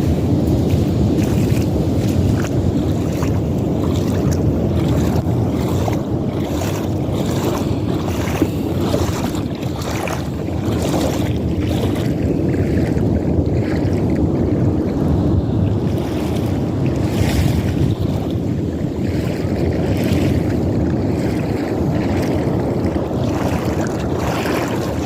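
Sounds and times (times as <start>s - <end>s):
waves washing onto beach: 0.0s - 25.0s
wind rumbling on microphone: 0.0s - 25.0s.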